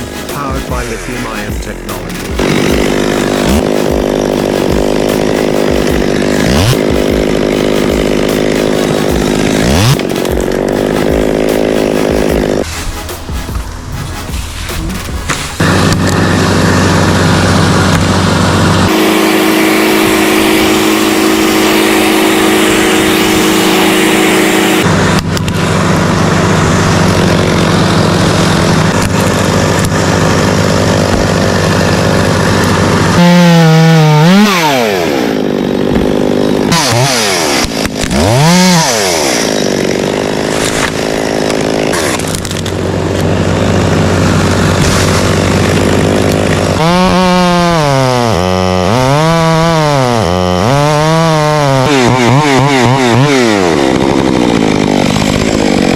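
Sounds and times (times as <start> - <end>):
chainsaws cutting wood: 0.0 - 55.9.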